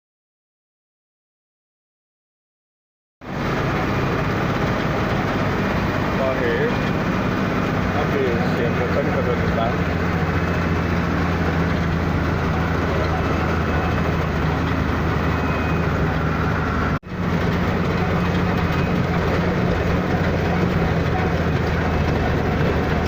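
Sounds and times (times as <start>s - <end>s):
heavy machine engine running: 3.2s - 23.0s.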